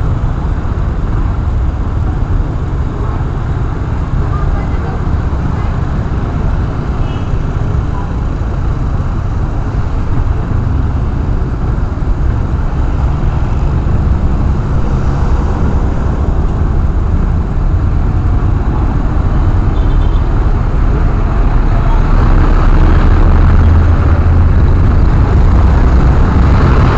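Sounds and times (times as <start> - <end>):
road and traffic noise: 0.0 - 26.9
wind rumble on microphone: 0.0 - 26.9.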